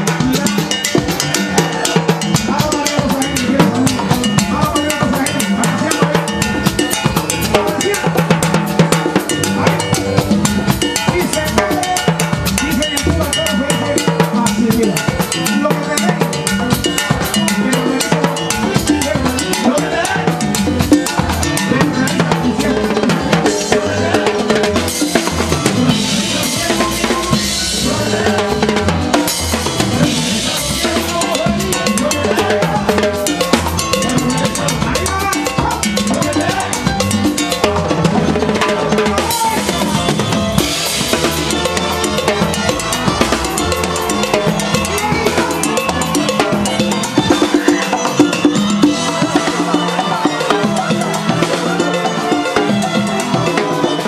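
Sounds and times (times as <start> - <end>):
band playing: 0.0 - 54.0
drum kit groove: 0.0 - 54.0.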